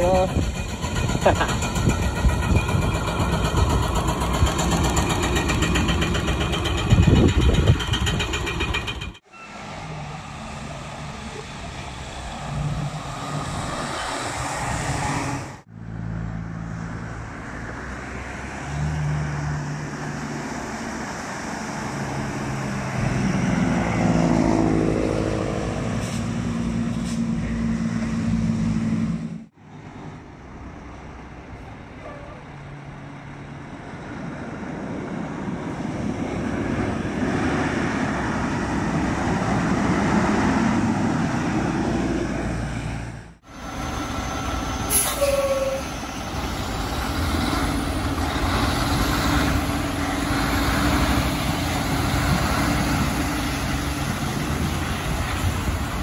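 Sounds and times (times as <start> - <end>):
diesel trucks driving by: 0.0 - 56.0.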